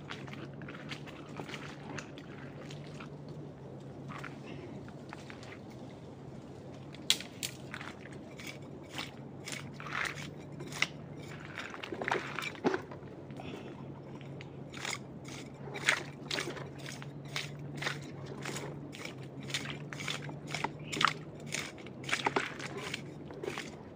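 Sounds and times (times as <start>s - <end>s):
faint low hum: 0.0s - 23.9s.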